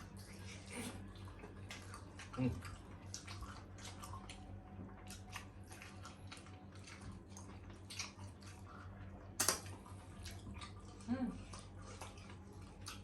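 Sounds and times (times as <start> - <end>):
chewing and biting: 0.0 - 13.0
low electrical hum: 0.0 - 13.0.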